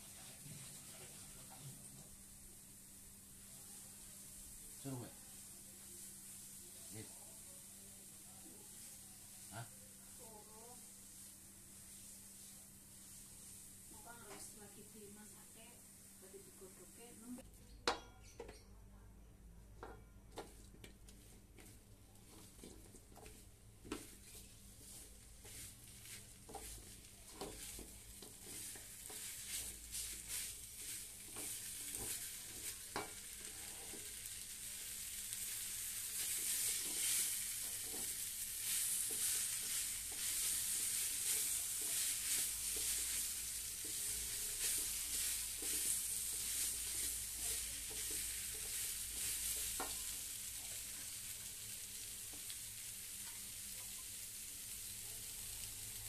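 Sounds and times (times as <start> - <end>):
food sizzling in a pan: 0.0 - 18.6, 19.6 - 56.0.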